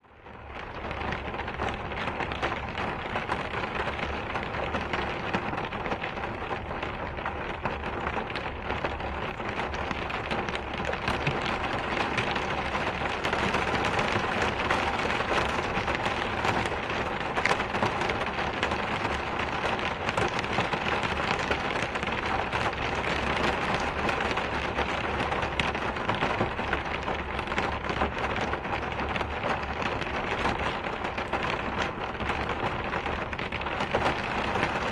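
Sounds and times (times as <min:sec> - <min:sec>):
raindrops pattering on a surface: 0:00.0 - 0:34.9
steady rain falling: 0:00.0 - 0:34.9.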